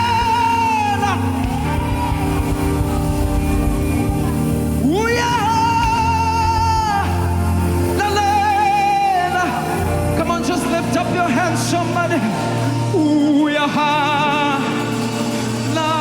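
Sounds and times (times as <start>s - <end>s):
band playing gospel music: 0.0s - 16.0s
person singing with vibrato: 0.0s - 16.0s.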